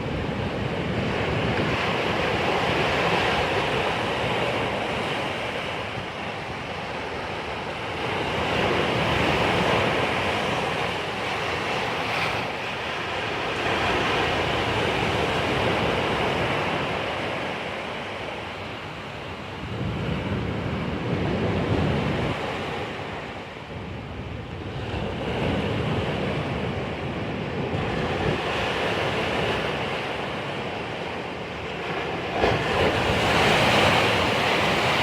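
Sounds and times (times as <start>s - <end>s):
waves breaking on shore: 0.0s - 35.0s
wind on microphone: 0.0s - 35.0s.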